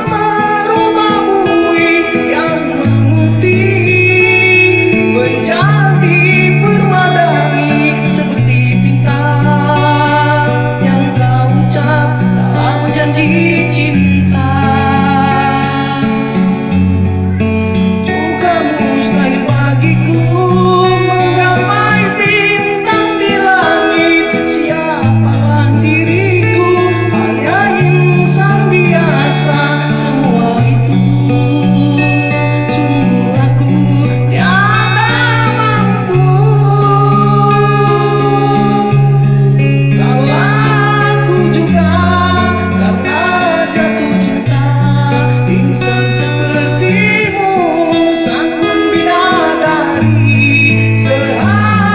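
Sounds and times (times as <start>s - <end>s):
bass line: 0.0s - 51.9s
guitar accompaniment: 0.0s - 51.9s
person singing: 0.0s - 51.9s.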